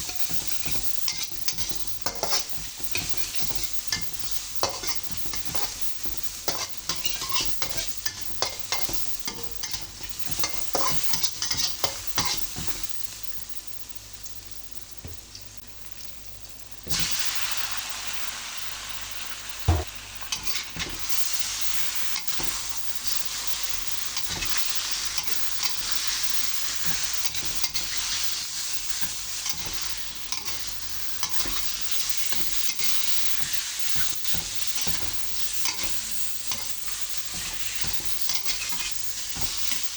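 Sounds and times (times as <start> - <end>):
spatula scraping in a pan: 0.0 - 12.8, 20.2 - 39.9
food sizzling in hot oil: 0.0 - 39.9.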